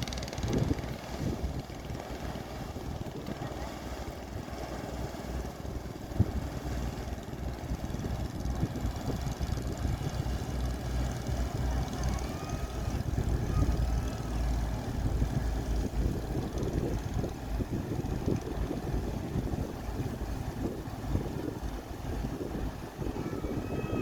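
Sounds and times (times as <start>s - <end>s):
ferry engine rumble: 0.0s - 24.0s
wind buffeting microphone: 0.0s - 24.0s.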